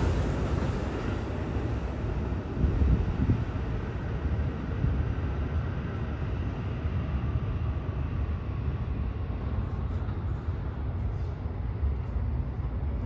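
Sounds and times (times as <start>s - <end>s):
subway train rumbling on viaduct: 0.0s - 13.0s.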